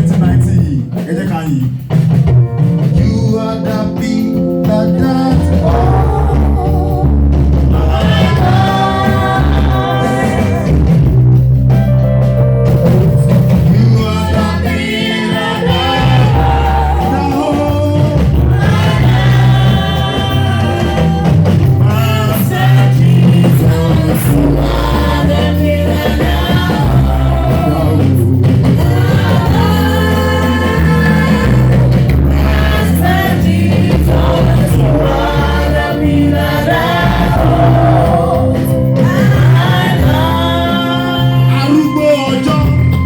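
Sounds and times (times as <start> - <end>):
gospel singing voices: 0.0 - 11.9, 12.7 - 43.0
band with steady bass: 0.0 - 43.0.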